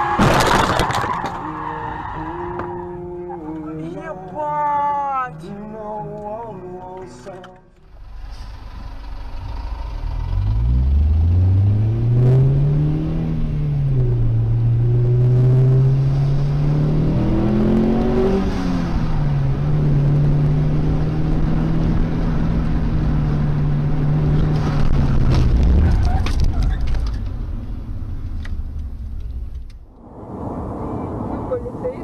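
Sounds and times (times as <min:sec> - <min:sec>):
car engine accelerating: 0:01.3 - 0:32.0.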